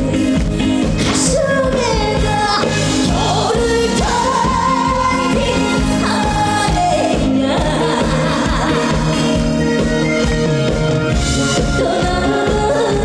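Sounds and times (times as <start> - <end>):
woman singing: 0.0 - 10.3, 11.4 - 13.0
band accompaniment with steady beat: 0.0 - 13.0.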